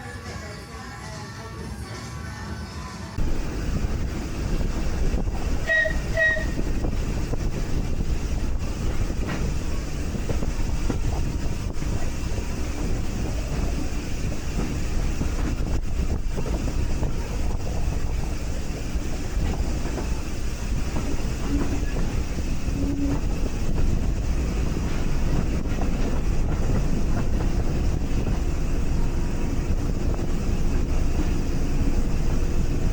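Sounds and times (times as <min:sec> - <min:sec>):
train rumbling along track: 0:03.1 - 0:32.9
wind noise: 0:03.2 - 0:32.9.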